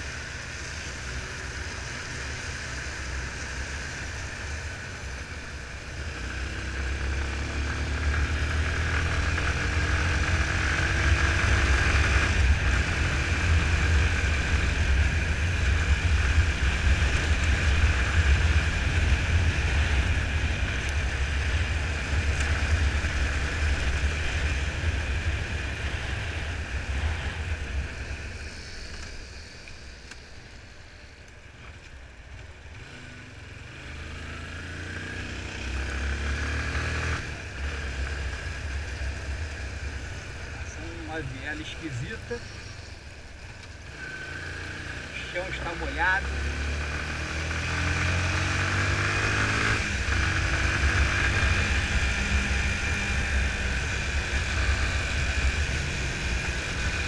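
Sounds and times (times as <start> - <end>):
motorcycle engine running: 0.0 - 30.4, 31.6 - 57.0
tyres on wet road: 0.0 - 57.0
wind: 0.0 - 57.0.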